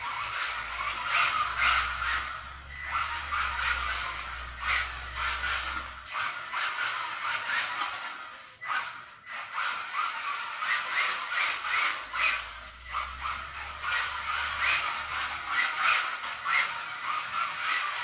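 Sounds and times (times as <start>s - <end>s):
toy car electric motor whining: 0.0s - 18.0s
tyres sliding on tile: 0.0s - 18.0s.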